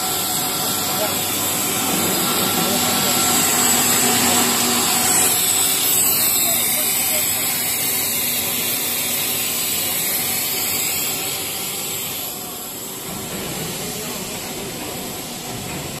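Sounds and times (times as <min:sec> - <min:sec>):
extrusion machinery hissing and humming: 0:00.0 - 0:16.0.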